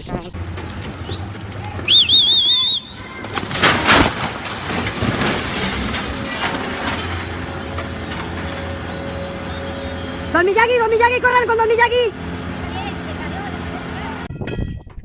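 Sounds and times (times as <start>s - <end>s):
vehicle engine running: 0.2s - 14.3s.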